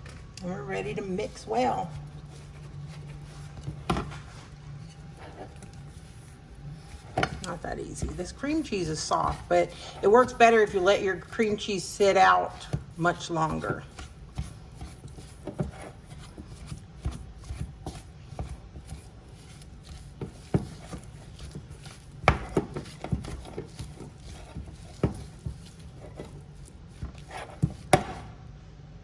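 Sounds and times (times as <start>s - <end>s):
stirring thick filling in bowl: 0.7s - 28.3s.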